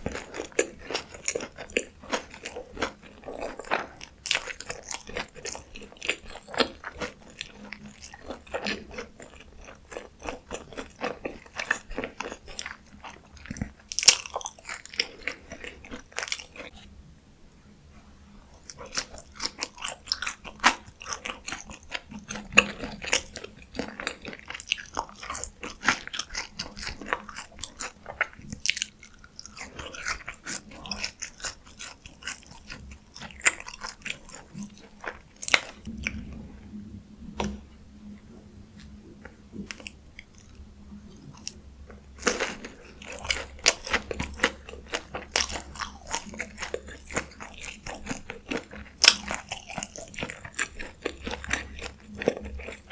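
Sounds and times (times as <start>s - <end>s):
person chewing crunchy food: 0.0s - 16.9s, 18.4s - 37.6s, 38.5s - 52.9s.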